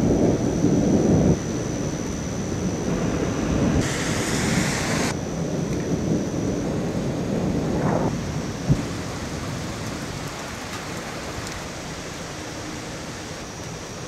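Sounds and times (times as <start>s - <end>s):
steady rain: 0.0s - 14.0s
thunder rumbling: 0.0s - 14.0s.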